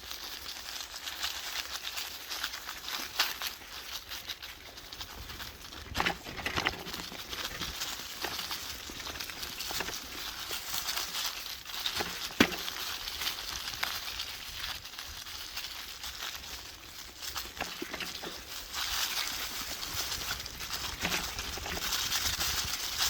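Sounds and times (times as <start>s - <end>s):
dry leaves rustling and crackling: 0.0s - 23.0s.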